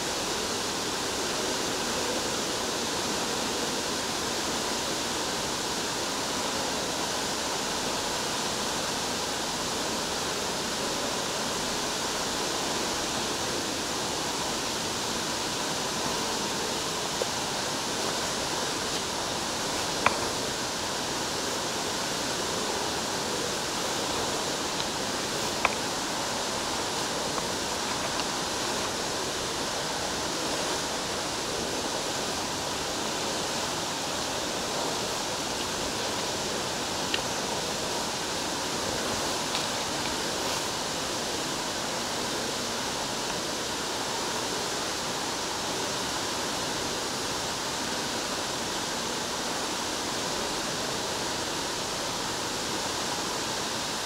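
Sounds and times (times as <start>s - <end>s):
waterfall rushing in a cave: 0.0s - 54.0s.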